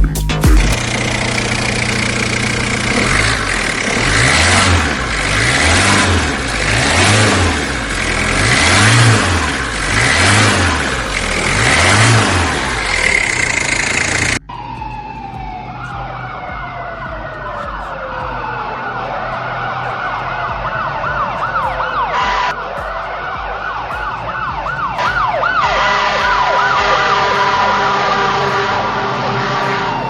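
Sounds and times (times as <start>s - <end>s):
vehicle engine running: 0.0s - 30.0s
emergency siren wailing fast: 0.8s - 30.0s.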